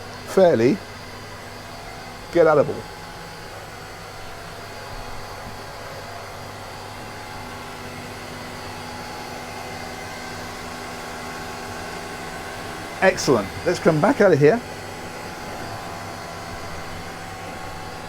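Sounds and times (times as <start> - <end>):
engine room machinery hum: 0.0 - 18.0.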